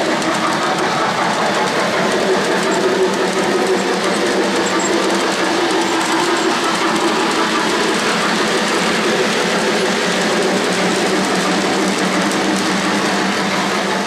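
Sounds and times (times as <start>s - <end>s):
model train wheels rumbling on rails: 0.0s - 14.0s.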